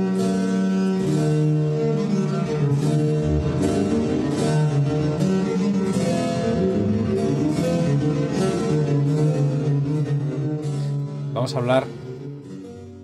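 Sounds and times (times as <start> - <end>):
plucked string notes: 0.0 - 13.0.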